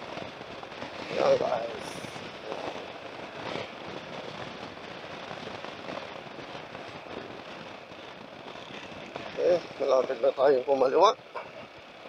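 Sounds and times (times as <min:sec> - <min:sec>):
motorcycle road and engine noise: 0:00.0 - 0:12.0
wind buffeting microphone: 0:00.0 - 0:12.0.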